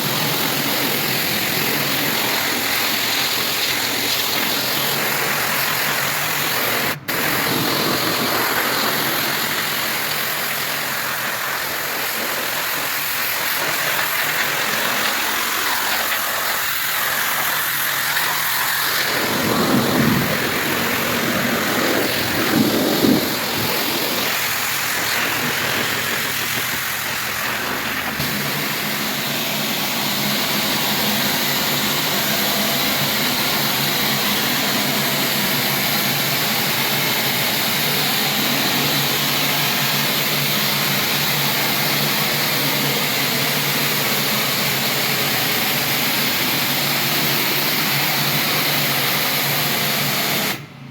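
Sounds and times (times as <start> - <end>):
engine hum: 0.0 - 43.5
pressure washer spray hiss: 0.0 - 50.7.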